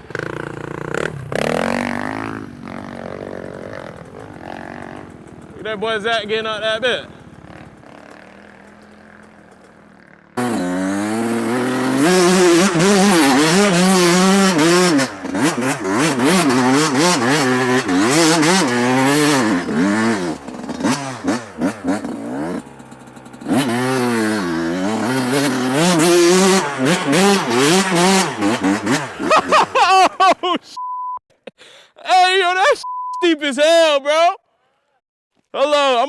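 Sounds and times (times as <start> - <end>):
dirt bike engine revving: 0.0 - 30.3.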